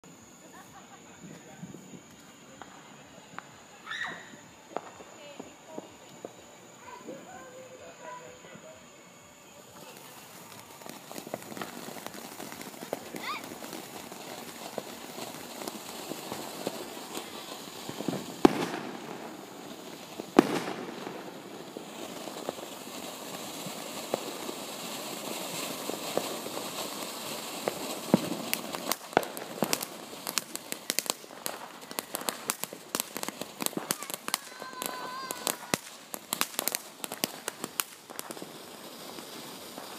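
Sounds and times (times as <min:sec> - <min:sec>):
fireworks hissing and crackling: 0:00.0 - 0:39.9
fireworks popping: 0:00.0 - 0:39.9
loud firework bangs: 0:02.5 - 0:08.6, 0:09.6 - 0:39.9.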